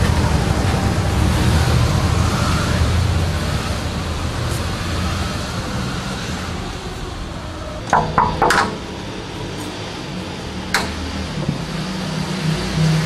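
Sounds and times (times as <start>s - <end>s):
outdoor street noise: 0.0s - 13.0s.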